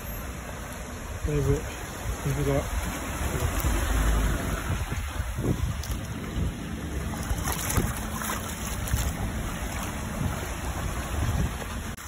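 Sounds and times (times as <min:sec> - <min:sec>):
water rushing over asphalt: 0:00.0 - 0:12.0
wind buffeting the microphone: 0:02.0 - 0:12.0.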